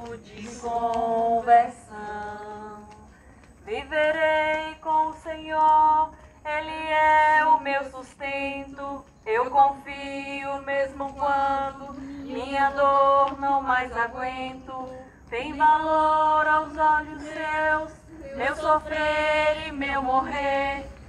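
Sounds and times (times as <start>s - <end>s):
group of people singing a hymn: 0.0s - 21.0s.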